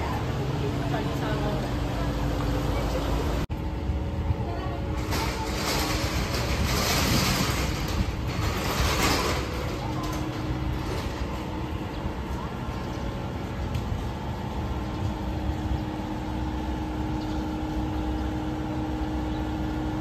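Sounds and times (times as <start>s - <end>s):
low street rumble: 0.0s - 20.0s
vehicle passing on cobblestones: 0.0s - 20.0s.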